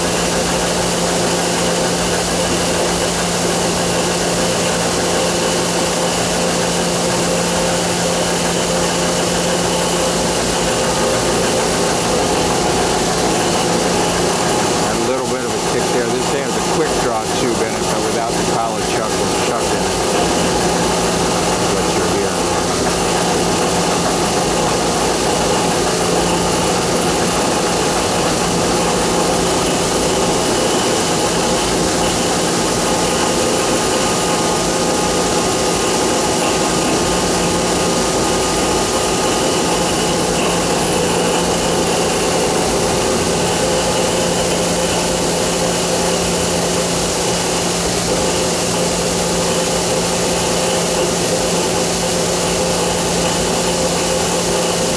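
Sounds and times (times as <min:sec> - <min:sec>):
machine hum and whir: 0:00.0 - 0:54.9.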